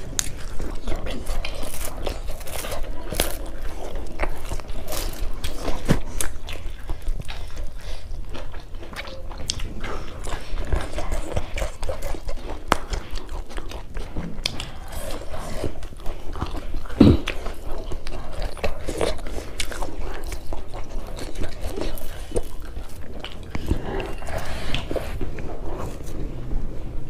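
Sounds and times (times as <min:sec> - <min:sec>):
chewing and mouth smacking: 0:00.0 - 0:26.8.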